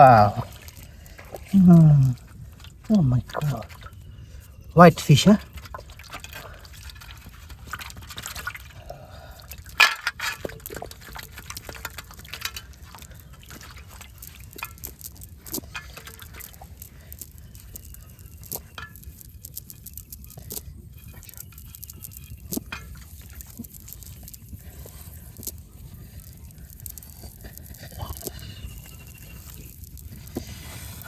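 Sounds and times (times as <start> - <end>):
water splashing and dripping: 0.0 - 31.0.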